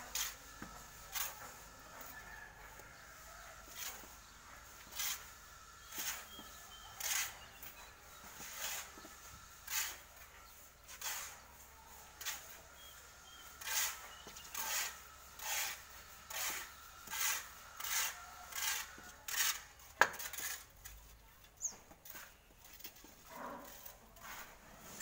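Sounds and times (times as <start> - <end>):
shovel scraping into sand: 0.0 - 25.0.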